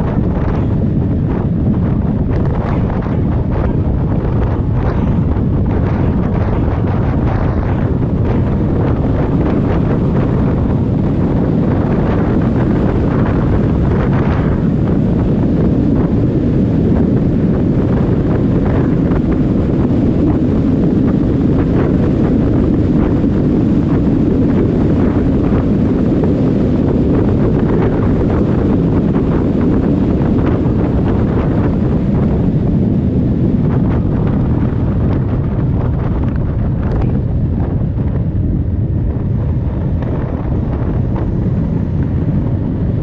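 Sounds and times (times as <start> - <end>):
motorcycle noise: 0.0 - 43.0
wind rushing over microphone: 0.0 - 43.0.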